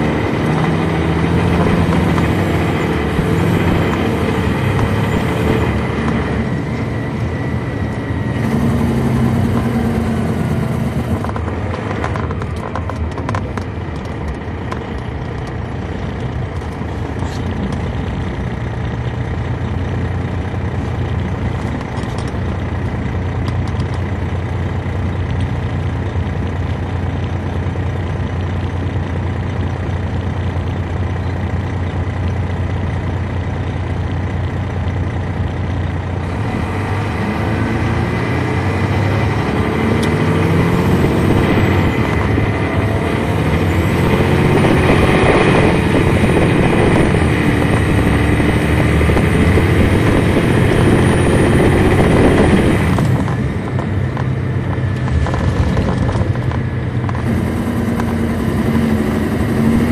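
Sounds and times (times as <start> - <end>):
coach engine droning: 0.0 - 59.9.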